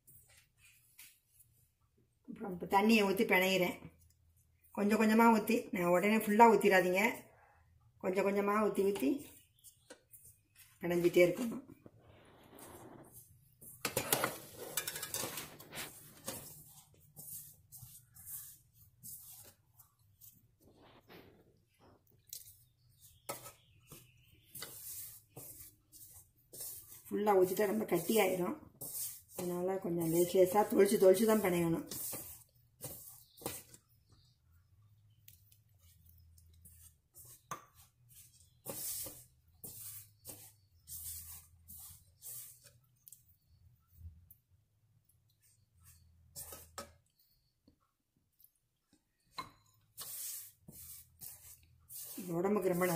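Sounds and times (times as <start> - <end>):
hand rustling flour in pot: 0.0 - 2.2, 2.8 - 48.0, 48.6 - 52.9.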